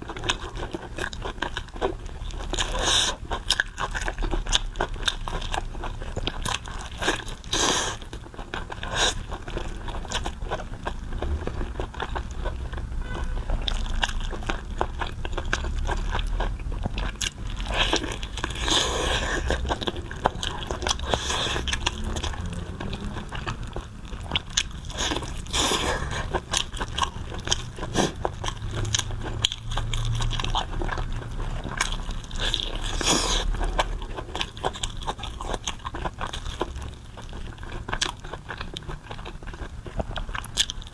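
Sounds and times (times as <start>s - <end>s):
person chewing with wet mouth clicks: 0.0s - 40.9s.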